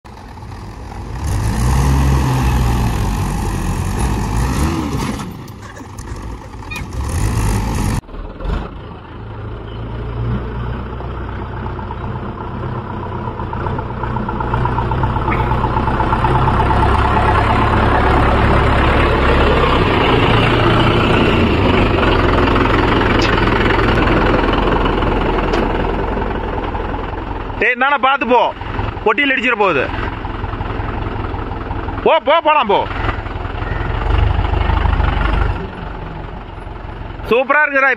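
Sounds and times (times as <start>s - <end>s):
tractor diesel engines running hard: 0.1s - 37.9s.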